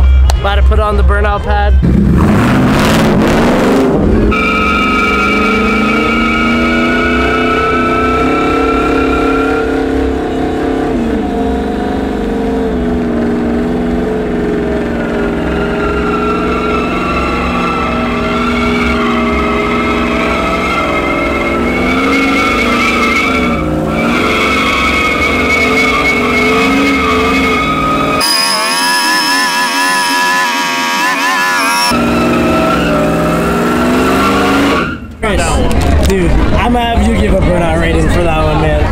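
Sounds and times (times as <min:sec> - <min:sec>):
truck engine revving high: 0:01.7 - 0:38.9.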